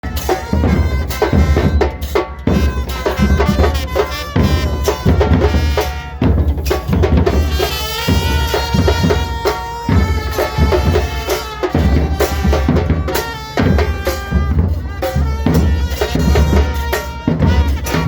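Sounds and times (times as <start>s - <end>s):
band playing: 0.0s - 18.0s
drums beating: 0.0s - 18.0s.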